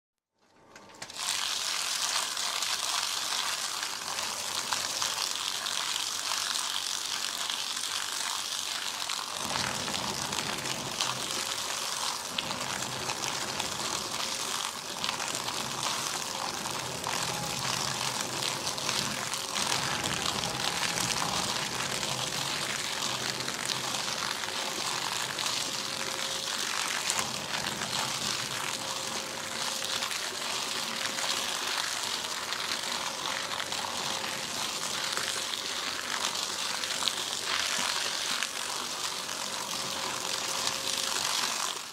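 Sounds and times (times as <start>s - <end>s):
paper shredder cutting paper: 0.6s - 41.9s.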